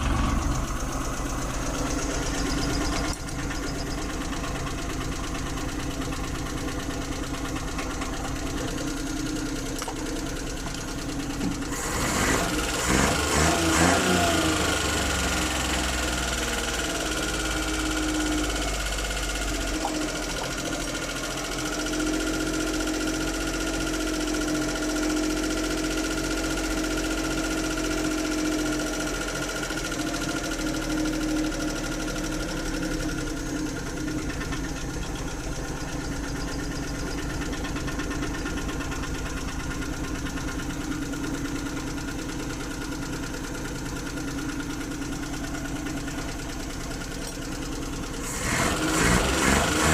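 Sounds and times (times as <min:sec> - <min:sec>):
engine idling and misfiring: 0:00.0 - 0:49.9.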